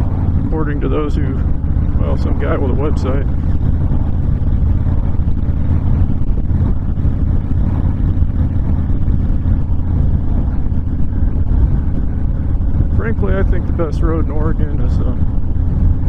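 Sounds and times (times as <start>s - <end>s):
motorcycle engine running: 0.0s - 16.0s
wind noise: 0.0s - 16.0s.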